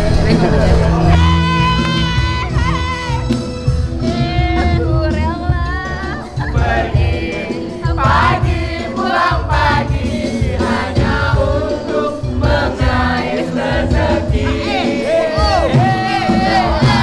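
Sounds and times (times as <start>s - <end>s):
music with heavy beat: 0.0s - 17.0s
group of voices singing: 0.1s - 17.0s.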